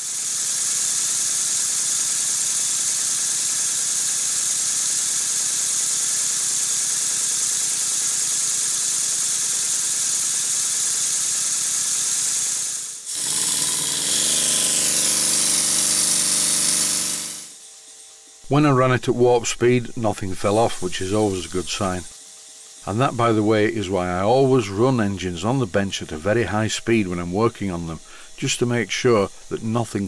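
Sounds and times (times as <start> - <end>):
air hissing: 0.0 - 17.6, 19.3 - 22.2, 22.8 - 30.0
model steam engine running: 0.0 - 30.0.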